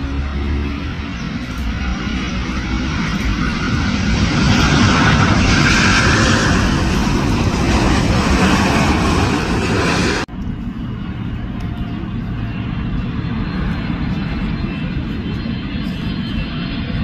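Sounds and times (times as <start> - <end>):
jet airliner roar: 0.0 - 17.0.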